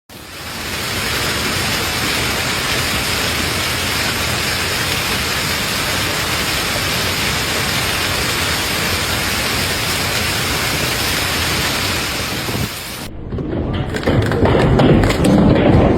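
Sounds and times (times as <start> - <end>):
heavy rain pelting down: 0.1 - 15.9.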